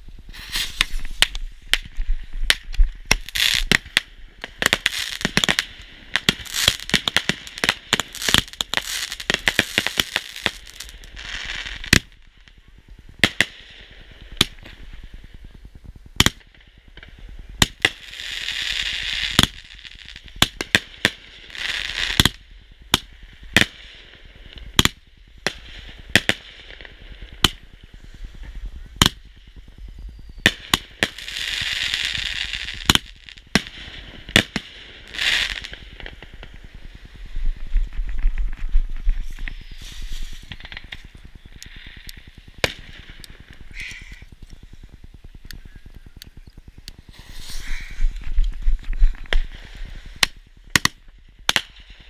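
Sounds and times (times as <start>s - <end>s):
fireworks bangs: 0.0s - 52.0s
fireworks crackling: 0.0s - 52.0s.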